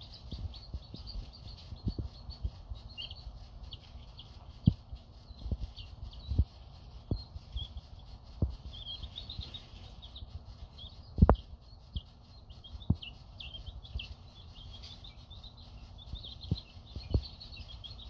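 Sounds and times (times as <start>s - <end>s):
chicks cheeping: 0.0s - 18.0s.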